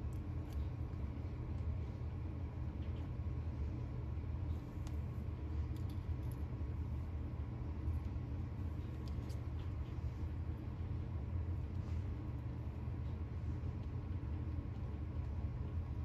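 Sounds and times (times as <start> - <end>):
low rumble of room noise: 0.0 - 16.0.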